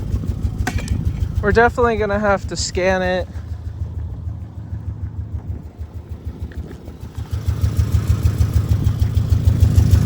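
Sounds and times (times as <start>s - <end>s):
car engine idling with exhaust pulsing: 0.0s - 10.0s.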